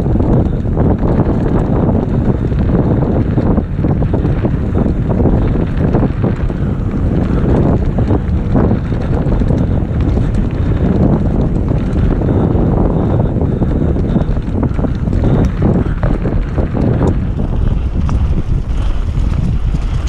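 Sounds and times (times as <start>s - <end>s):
bike clattering over rough ground: 0.0s - 20.0s
wind buffeting microphone: 0.0s - 20.0s.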